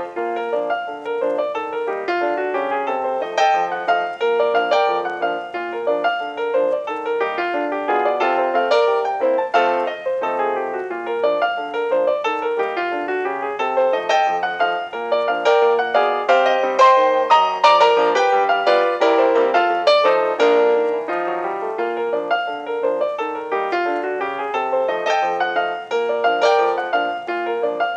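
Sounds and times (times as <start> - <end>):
piano music: 0.0 - 27.9.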